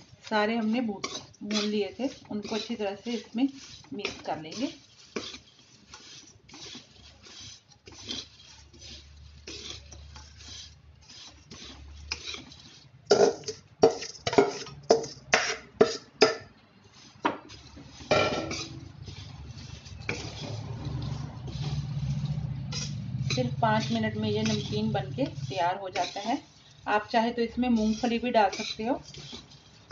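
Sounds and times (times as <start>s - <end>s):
spatula scraping dry food in pan: 0.0s - 29.9s.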